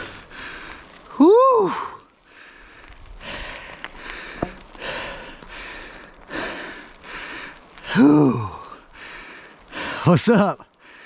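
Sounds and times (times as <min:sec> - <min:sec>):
hard breathing: 0:00.0 - 0:01.0, 0:02.2 - 0:10.1.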